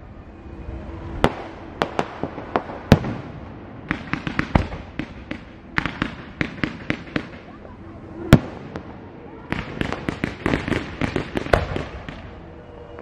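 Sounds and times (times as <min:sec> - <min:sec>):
fireworks bangs and cracks: 0:01.2 - 0:07.6, 0:08.3 - 0:12.4.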